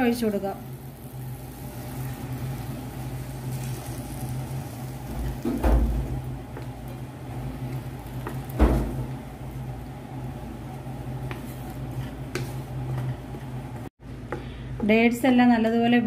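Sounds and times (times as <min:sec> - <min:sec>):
spatula stirring: 0:00.2 - 0:05.5, 0:06.1 - 0:13.9.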